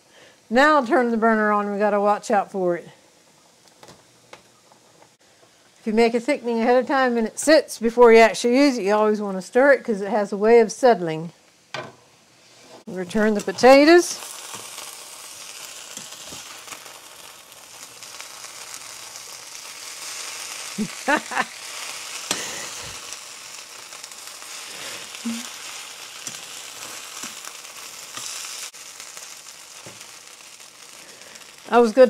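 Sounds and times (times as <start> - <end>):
potatoes sizzling in a pan: 0.0 - 32.0.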